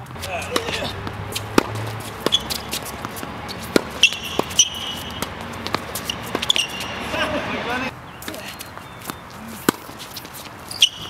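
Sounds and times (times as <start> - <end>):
tennis ball pocks: 0.2 - 7.4, 8.2 - 11.0.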